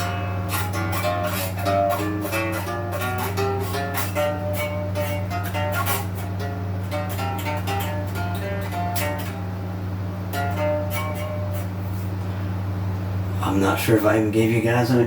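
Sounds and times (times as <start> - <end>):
unamplified electric guitar strings: 0.0 - 12.4
steady low hum: 0.0 - 15.0.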